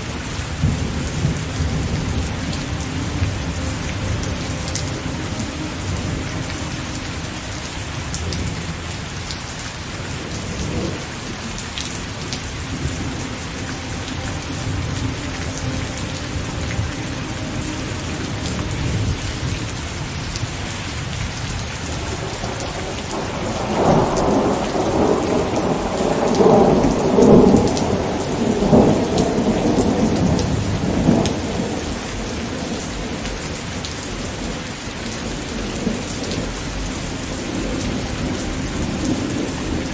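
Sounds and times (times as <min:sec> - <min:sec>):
steady rain falling: 0:00.0 - 0:39.9
rumble of thunder: 0:00.4 - 0:09.0, 0:10.2 - 0:39.9.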